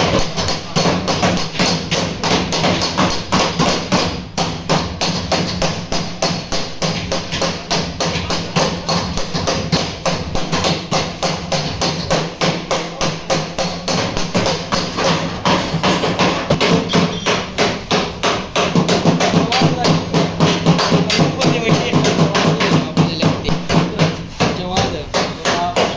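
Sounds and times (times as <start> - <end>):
hammer on sheet metal: 0.0 - 25.9.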